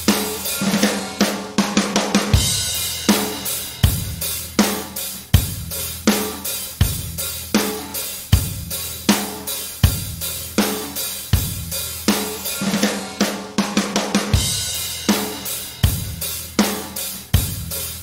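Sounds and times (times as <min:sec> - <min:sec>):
drum kit beat: 0:00.0 - 0:18.0.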